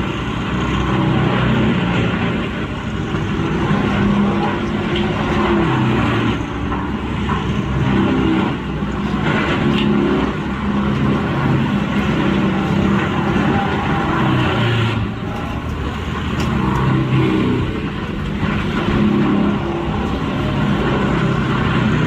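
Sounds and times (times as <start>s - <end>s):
diesel engine under heavy load: 0.0s - 22.0s.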